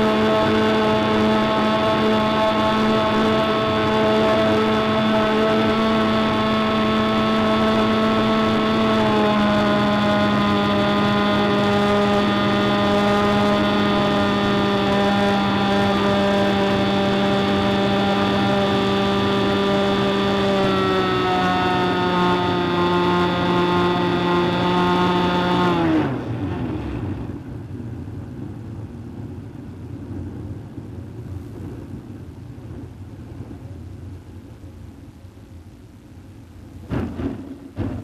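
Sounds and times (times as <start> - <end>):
model airplane propeller droning: 0.0 - 38.0.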